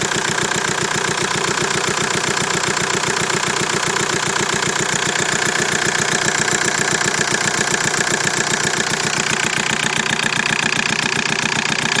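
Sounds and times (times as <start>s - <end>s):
car engine idling: 0.0s - 12.0s
engine knocking: 0.0s - 12.0s.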